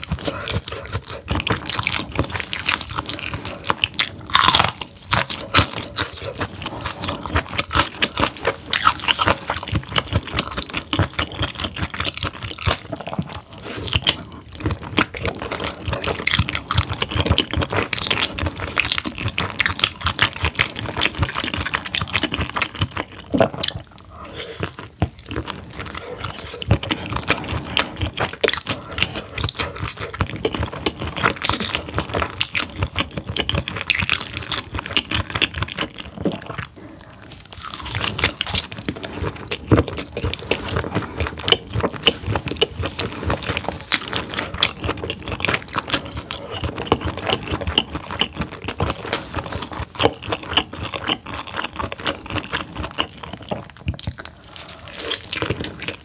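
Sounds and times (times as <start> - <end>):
chewing with wet clicks and smacks: 0.0 - 56.0.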